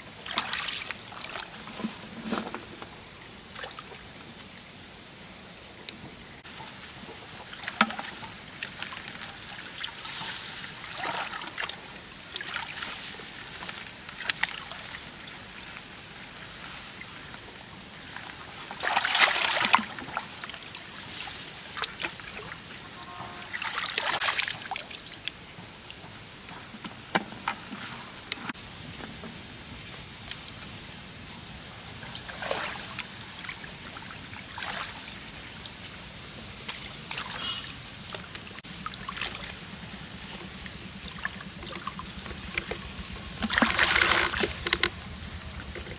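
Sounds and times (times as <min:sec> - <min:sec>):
water splashing and sloshing: 0:00.0 - 0:04.4, 0:06.4 - 0:45.9.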